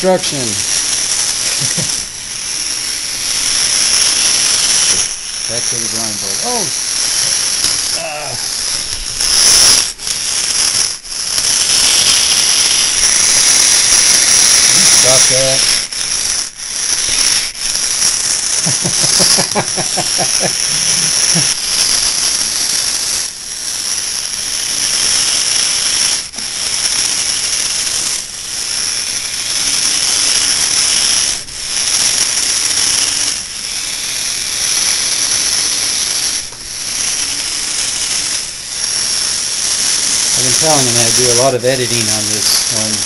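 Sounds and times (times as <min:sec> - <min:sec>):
electric motors whining: 0:00.0 - 0:43.0
rapid pitched pulses: 0:00.0 - 0:43.0.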